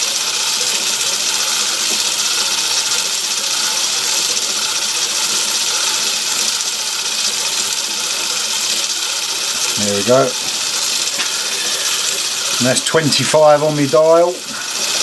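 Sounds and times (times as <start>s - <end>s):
lathe whirring: 0.0s - 15.0s.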